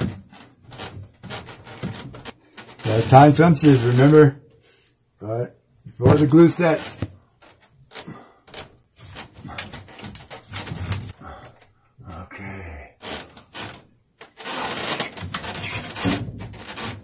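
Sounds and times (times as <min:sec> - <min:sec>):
plastic pipe rubbing and knocking: 0:00.0 - 0:04.3, 0:05.9 - 0:11.6, 0:13.0 - 0:17.0.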